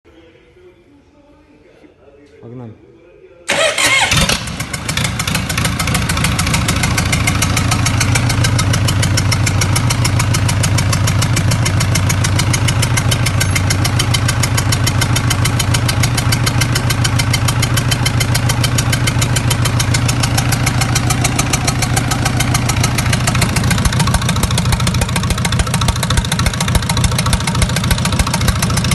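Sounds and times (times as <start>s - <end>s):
diesel engine idling: 3.5s - 28.9s.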